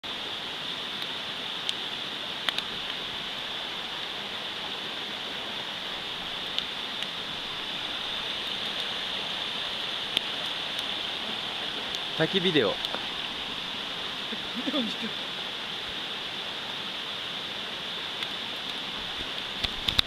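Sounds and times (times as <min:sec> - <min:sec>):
campfire crackling: 0:00.0 - 0:20.0
mountain stream rushing: 0:00.0 - 0:20.0.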